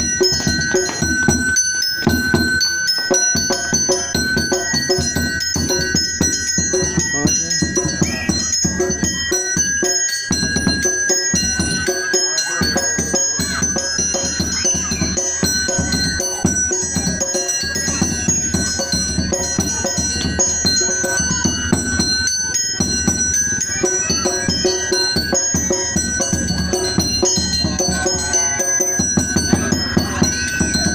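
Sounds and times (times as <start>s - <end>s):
fast steady drumming: 0.0s - 30.9s
mallet percussion melody: 0.0s - 30.9s.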